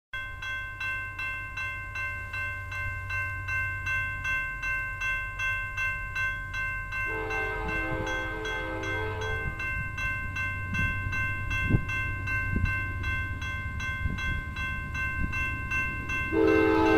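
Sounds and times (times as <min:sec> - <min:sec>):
crossing bell ringing: 0:00.2 - 0:16.9.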